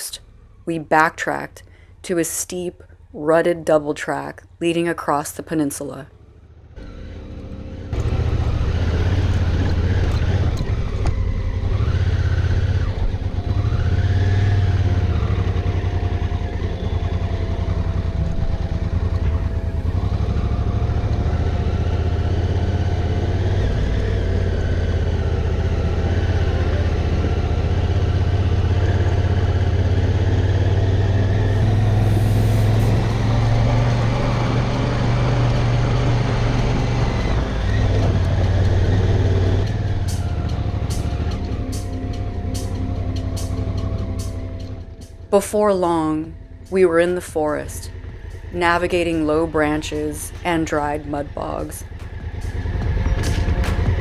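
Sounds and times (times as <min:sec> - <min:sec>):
motorcycle engine running: 0:06.2 - 0:54.0.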